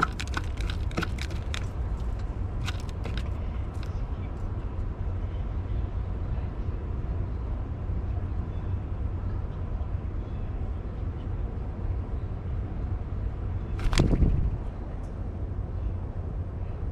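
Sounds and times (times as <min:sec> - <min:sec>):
low outdoor rumble: 0:00.0 - 0:16.9.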